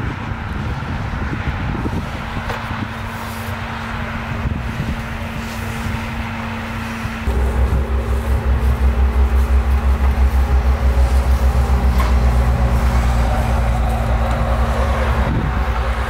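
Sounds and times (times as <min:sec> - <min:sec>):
steady hum: 0:02.8 - 0:16.0
vehicle engine idling: 0:02.9 - 0:16.0.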